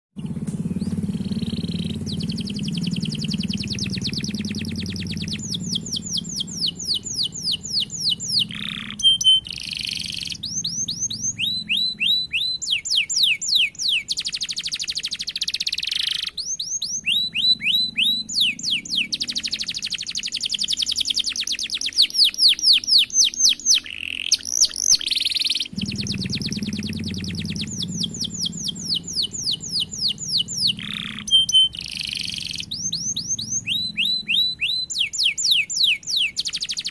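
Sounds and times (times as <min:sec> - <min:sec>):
canary singing: 0:00.2 - 0:36.9.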